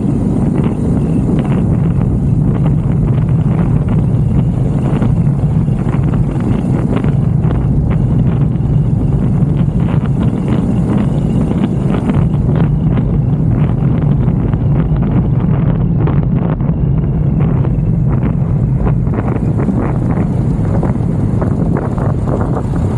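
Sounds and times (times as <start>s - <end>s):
motorcycle engine cruising: 0.0s - 22.9s
wind buffeting microphone: 0.0s - 22.9s.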